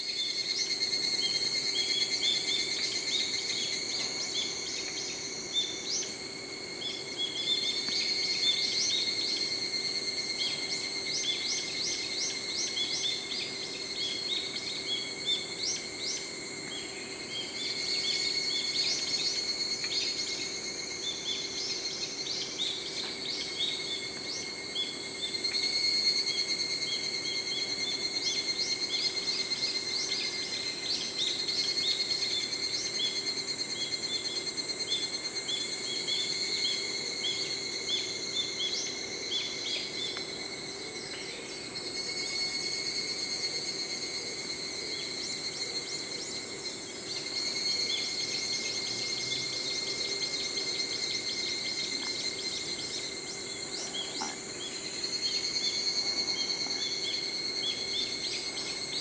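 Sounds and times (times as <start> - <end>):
cicadas calling: 0.0 - 59.0.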